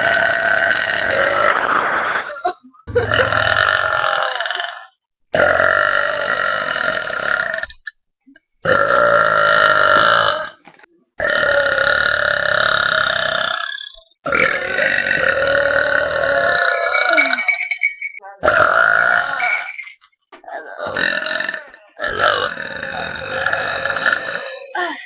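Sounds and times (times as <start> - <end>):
girls belching: 0.0 - 7.9, 8.6 - 17.7, 18.4 - 25.0.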